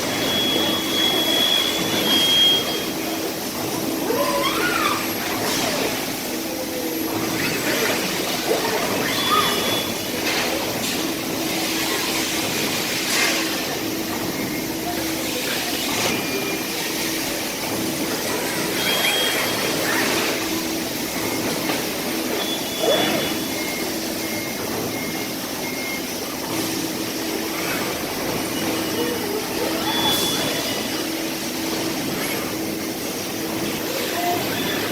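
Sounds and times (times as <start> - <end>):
machinery hum and hiss: 0.0 - 34.9.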